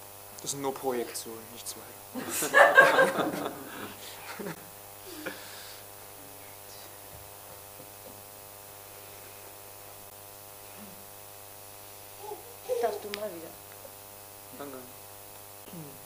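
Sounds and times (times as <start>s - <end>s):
electrical mains hum and buzz: 0.0s - 16.0s.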